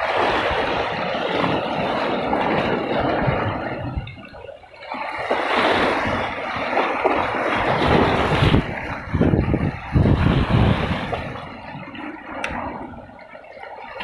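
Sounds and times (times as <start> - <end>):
sea waves washing against rocks: 0.0 - 14.0
wind buffeting microphone: 0.0 - 14.0.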